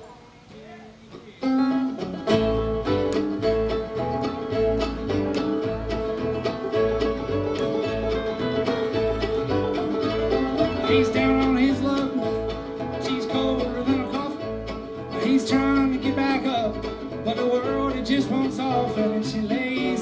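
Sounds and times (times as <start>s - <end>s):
banjo picking: 1.0s - 20.0s
guitar picking: 1.2s - 20.0s
bass pulse: 2.3s - 19.0s.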